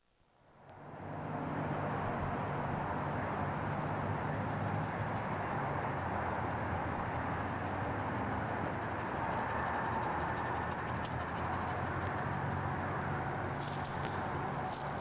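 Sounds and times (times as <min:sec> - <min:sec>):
distant highway traffic roar: 0:00.5 - 0:15.0.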